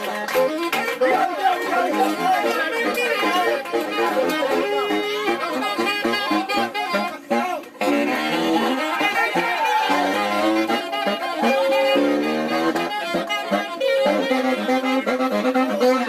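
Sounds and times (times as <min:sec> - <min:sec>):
wind instruments playing jazzy melody: 0:00.0 - 0:16.0.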